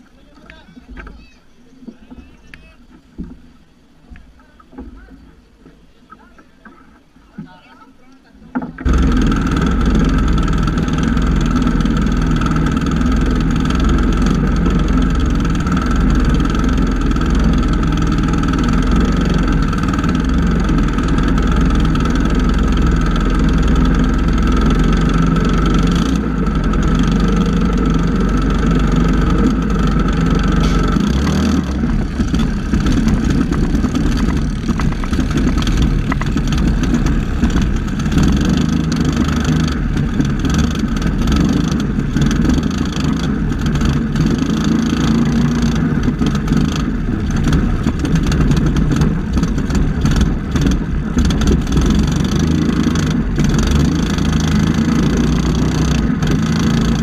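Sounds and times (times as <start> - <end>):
small boat engine running: 8.5 - 57.0.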